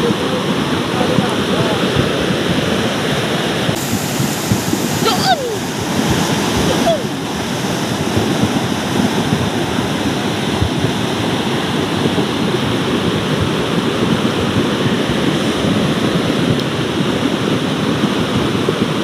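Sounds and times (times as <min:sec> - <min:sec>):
floodwater rushing: 0:00.0 - 0:19.0
heavy rain falling: 0:00.0 - 0:19.0.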